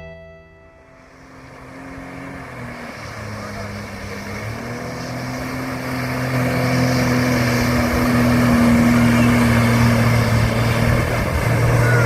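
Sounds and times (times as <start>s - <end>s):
motorboat engine running: 0.7s - 12.0s.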